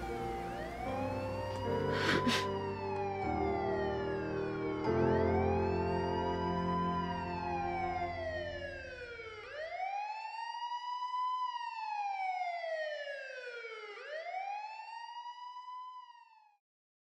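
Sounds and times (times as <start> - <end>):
police siren wailing: 0.0 - 16.6.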